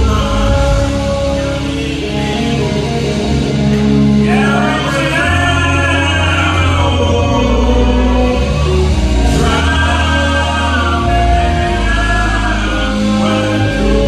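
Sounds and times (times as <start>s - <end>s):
male lead voices singing: 0.0s - 3.2s, 4.2s - 14.0s
band with sustained bass: 0.0s - 14.0s
choir singing: 0.0s - 14.0s.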